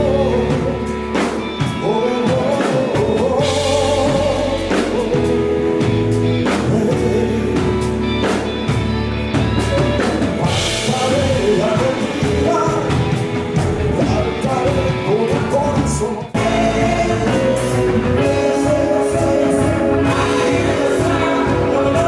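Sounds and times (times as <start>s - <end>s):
person singing: 0.0s - 8.8s, 9.5s - 22.0s
drum kit: 0.0s - 22.0s
guitar: 0.0s - 22.0s.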